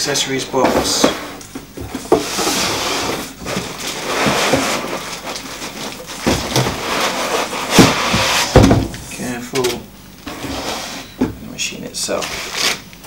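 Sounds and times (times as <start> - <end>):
rustling of cardboard and packing: 0.3 - 12.8.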